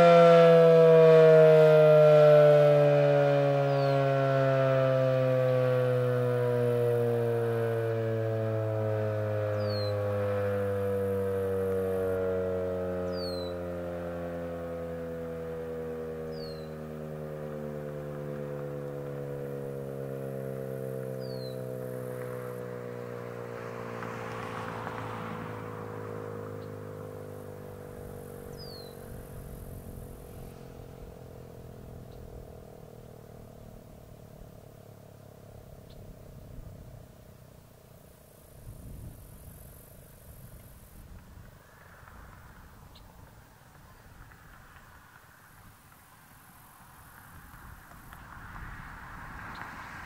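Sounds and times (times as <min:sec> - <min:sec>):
warning siren steady tone: 0:00.0 - 0:50.0.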